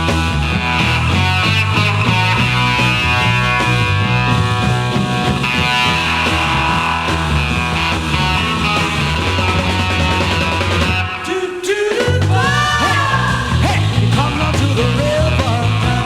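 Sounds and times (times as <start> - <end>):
steady bass line: 0.0 - 11.2, 12.1 - 16.0
garage rock guitar band: 0.0 - 16.0.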